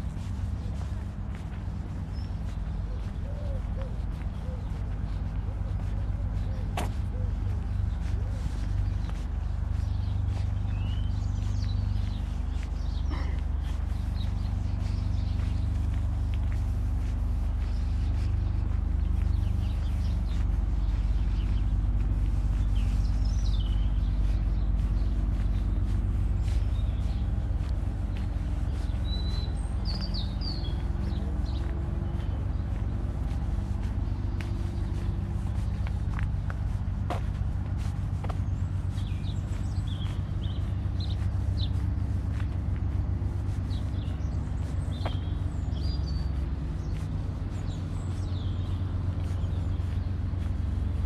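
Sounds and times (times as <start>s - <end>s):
small birds chirping: 0.0s - 51.0s
steady low rumble: 0.0s - 51.0s.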